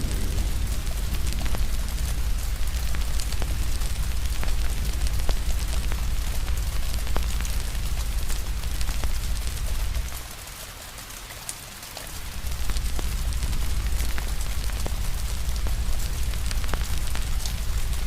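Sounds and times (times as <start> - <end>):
low rumble: 0.0 - 10.2, 12.2 - 18.0
wood fire crackling and popping: 0.0 - 10.4, 12.1 - 18.0
rain hiss: 0.0 - 18.0.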